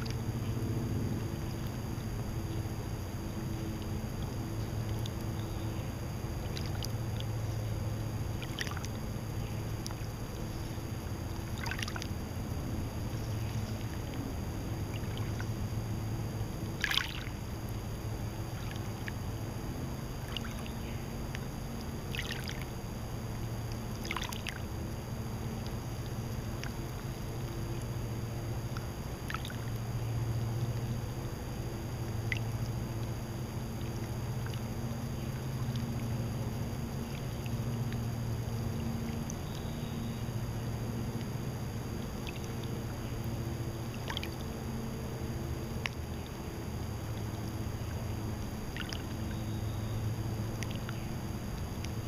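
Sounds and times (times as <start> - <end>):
steady low rumble: 0.0 - 52.0
water lapping at shore: 0.0 - 52.0.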